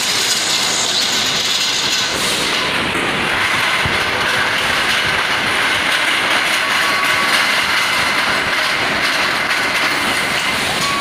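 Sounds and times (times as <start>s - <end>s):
production line machinery din: 0.0s - 11.0s.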